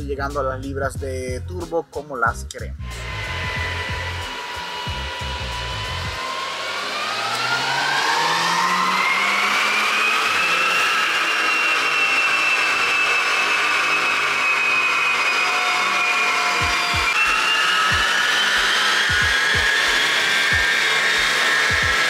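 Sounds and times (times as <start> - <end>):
car engine whine on dynamometer: 2.8 - 22.0.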